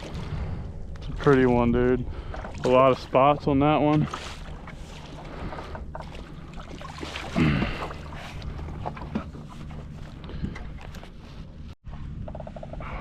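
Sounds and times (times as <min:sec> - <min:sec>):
water lapping around kayak: 0:00.0 - 0:13.0.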